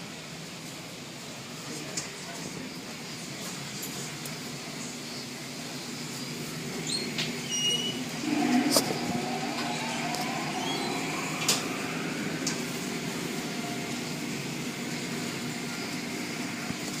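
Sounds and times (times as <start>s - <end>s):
car wash machinery humming: 0.0s - 17.0s.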